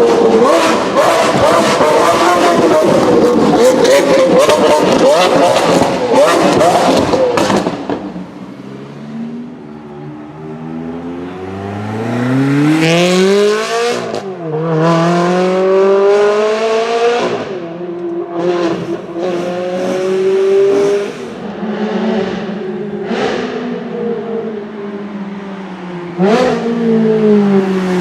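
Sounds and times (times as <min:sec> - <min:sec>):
car engine accelerating hard: 0:00.0 - 0:17.7, 0:18.3 - 0:24.9, 0:26.1 - 0:28.0.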